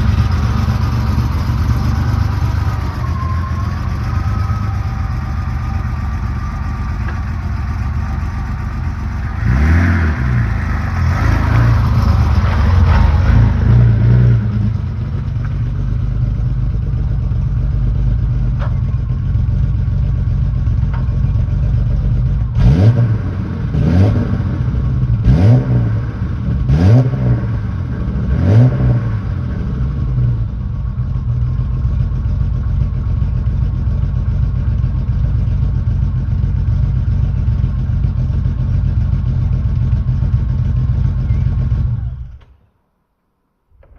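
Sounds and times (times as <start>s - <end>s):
car engine idling and revving: 0.0s - 42.7s.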